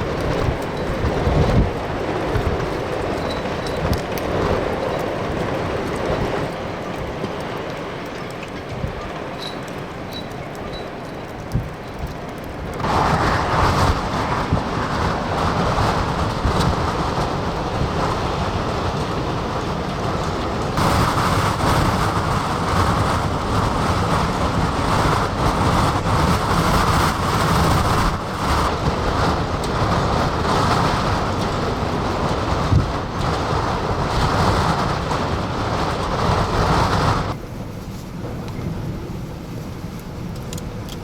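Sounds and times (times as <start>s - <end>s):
gusting wind on microphone: 0.0s - 41.0s.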